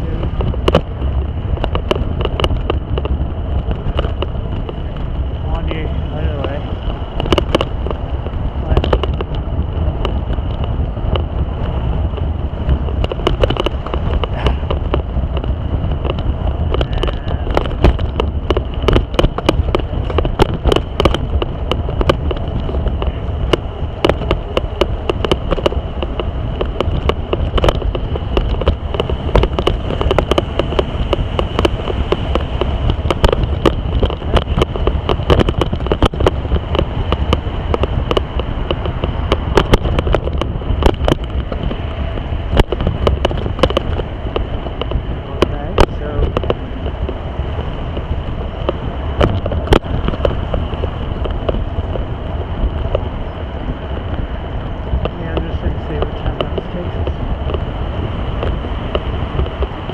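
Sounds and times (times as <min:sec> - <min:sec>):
bicycle knocks and rattles: 0:00.0 - 0:59.9
wind rumbling on microphone: 0:00.0 - 0:59.9.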